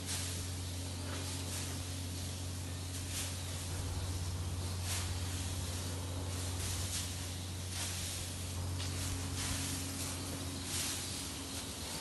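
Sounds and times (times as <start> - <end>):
steady low hum: 0.0 - 12.0
straw rustling and swishing: 0.0 - 12.0.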